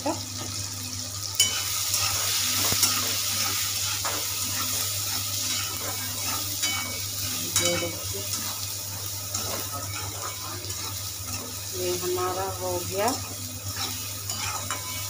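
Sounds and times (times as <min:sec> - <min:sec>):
masala sizzling in pan: 0:00.0 - 0:15.0
metal spatula scraping pan: 0:01.4 - 0:15.0.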